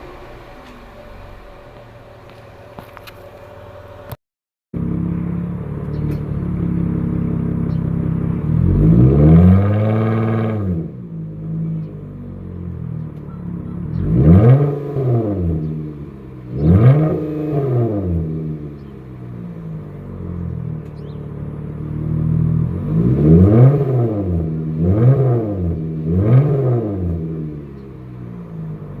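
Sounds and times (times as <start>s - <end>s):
car exhaust idling and revving: 0.0s - 29.0s.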